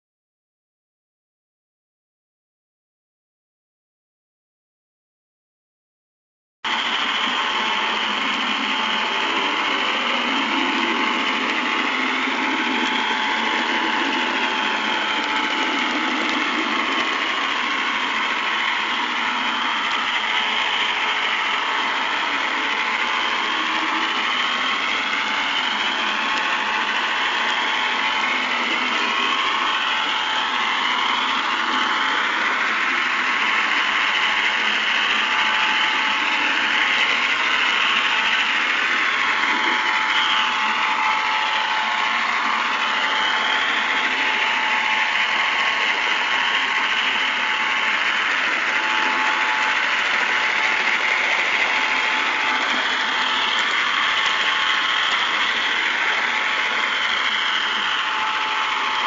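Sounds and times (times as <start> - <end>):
model train motor whirring: 6.7 - 59.0
train wheel noise: 6.7 - 59.0.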